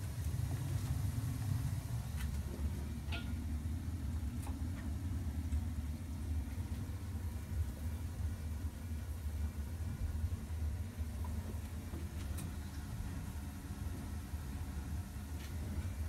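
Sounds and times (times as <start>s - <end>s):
boiler and pumps humming: 0.0s - 16.0s.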